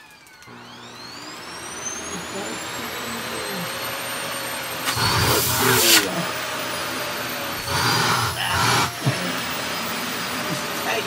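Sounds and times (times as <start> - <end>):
vacuum cleaner motor whine: 0.0 - 11.0.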